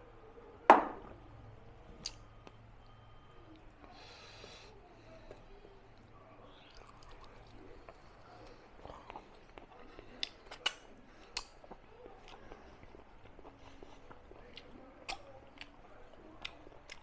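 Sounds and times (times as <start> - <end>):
person chewing food: 1.9 - 4.6, 5.2 - 17.0.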